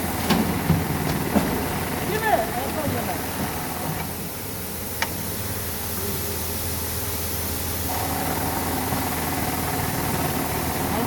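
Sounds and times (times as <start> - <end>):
sack-filling machine humming: 0.0 - 11.0.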